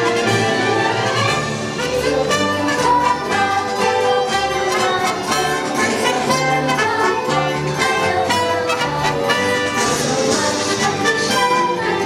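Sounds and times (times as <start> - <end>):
orchestral holiday music: 0.0 - 12.0.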